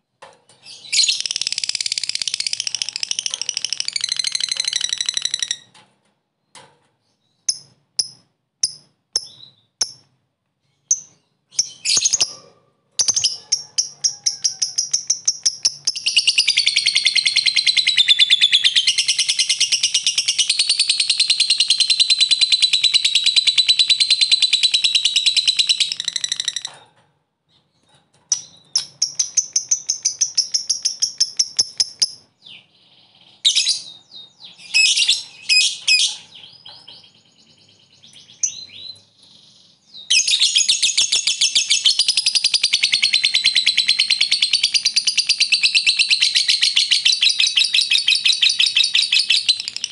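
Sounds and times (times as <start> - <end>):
lovebird chirping and chattering: 0.6 - 5.7, 7.2 - 10.1, 10.7 - 12.4, 13.0 - 26.7, 27.7 - 49.9.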